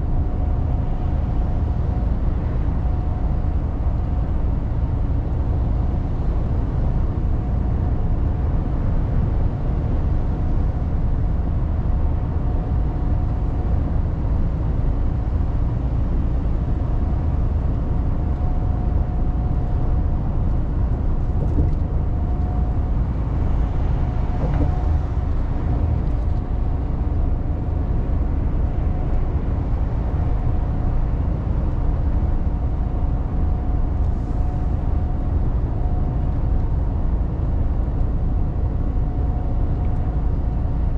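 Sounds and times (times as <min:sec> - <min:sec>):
faint constant whine: 0:00.0 - 0:40.9
truck engine and road rumble: 0:00.0 - 0:40.9.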